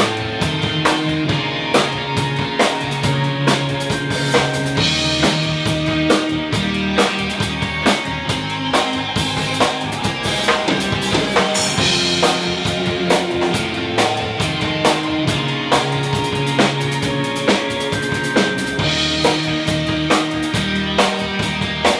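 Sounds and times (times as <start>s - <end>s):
drum kit beat: 0.0s - 21.9s
rock band playing: 0.0s - 21.9s.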